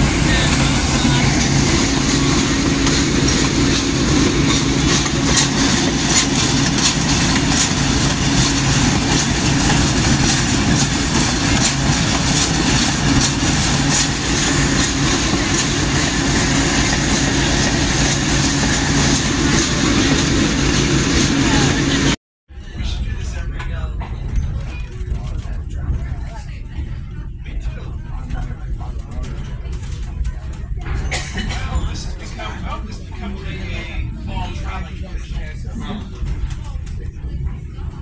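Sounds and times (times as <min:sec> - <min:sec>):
locomotive engine hum: 0:00.0 - 0:38.0
train wheels rumbling on rails: 0:00.0 - 0:38.0.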